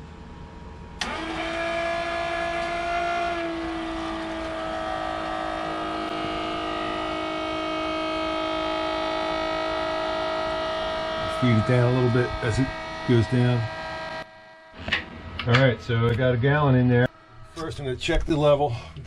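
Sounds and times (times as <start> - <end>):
electric pump motor whining: 1.0 - 18.6.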